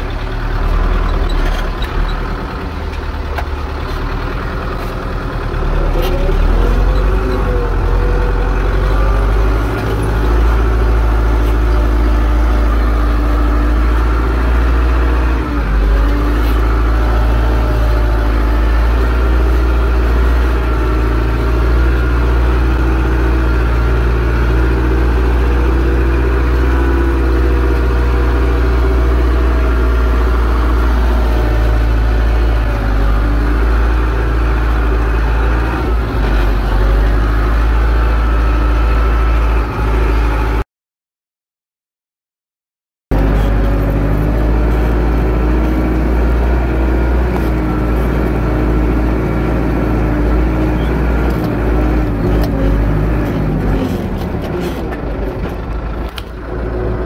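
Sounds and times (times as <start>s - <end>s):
tractor diesel engine running: 0.0s - 40.6s, 43.1s - 57.0s.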